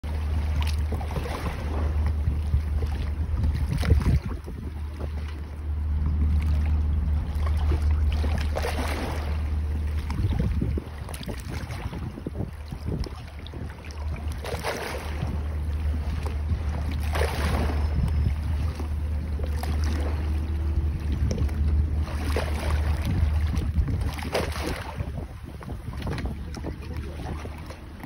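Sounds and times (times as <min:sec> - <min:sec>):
sea waves splashing: 0:00.0 - 0:28.0
wind on microphone: 0:00.1 - 0:28.0.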